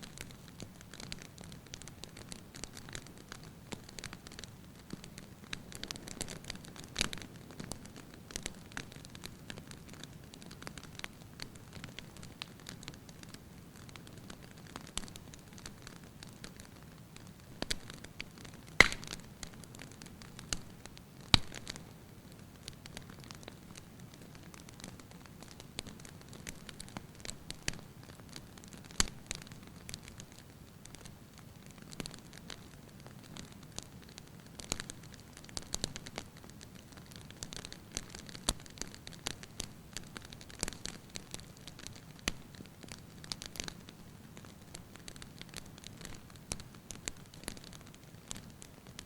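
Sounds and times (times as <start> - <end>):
firewood crackling and popping: 0.0 - 49.0.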